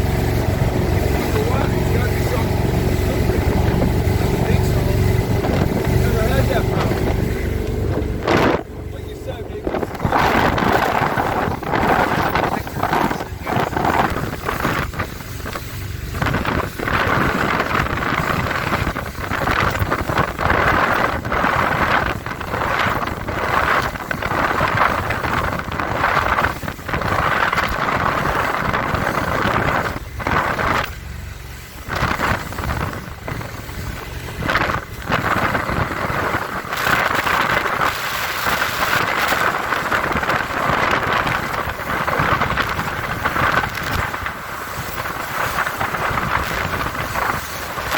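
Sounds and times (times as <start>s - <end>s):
hull slapping waves: 0.0s - 47.9s
powerboat engine: 0.0s - 47.9s
wind buffeting microphone: 0.0s - 47.9s.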